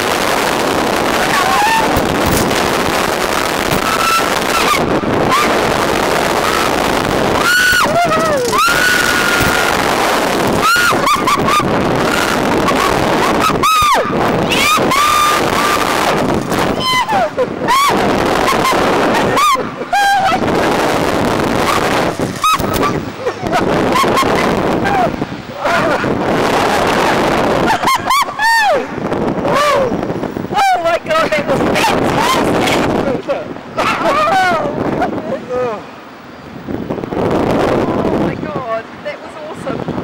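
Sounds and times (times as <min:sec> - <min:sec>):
wind buffeting microphone: 0:00.0 - 0:40.0
riders crying out: 0:00.9 - 0:33.0, 0:33.7 - 0:36.0.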